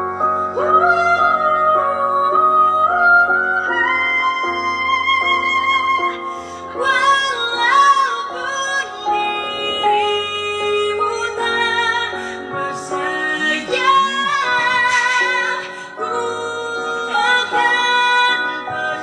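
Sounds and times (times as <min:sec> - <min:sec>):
woman singing: 0:00.1 - 0:19.0.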